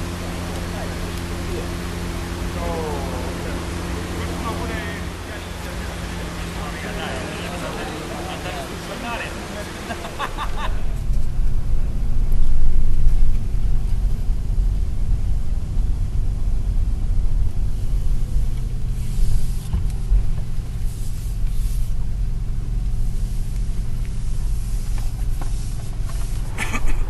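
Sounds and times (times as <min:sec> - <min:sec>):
road and tyre rumble in car cabin: 0:00.0 - 0:27.0.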